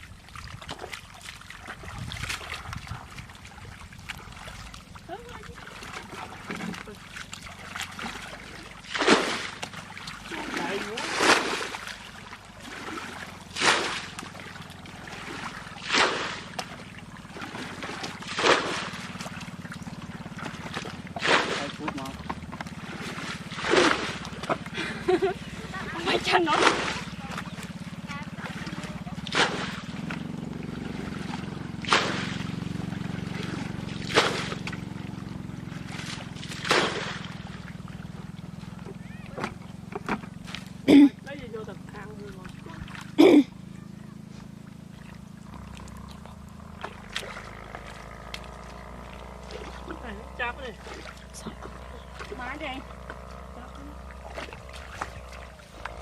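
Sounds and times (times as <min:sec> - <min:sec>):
steady low hum: 0:00.0 - 0:56.0
water swishing: 0:00.0 - 0:56.0
small engine running: 0:01.0 - 0:56.0.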